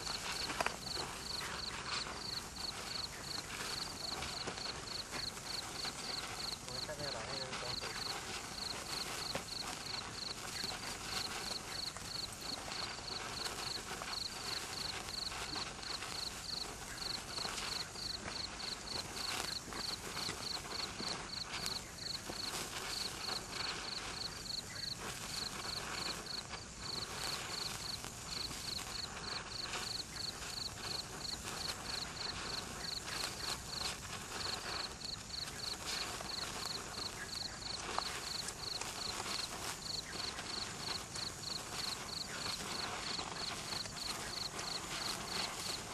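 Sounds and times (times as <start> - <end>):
insect chirping: 0.0 - 45.9
sparkler fizzing crackle: 0.0 - 45.9.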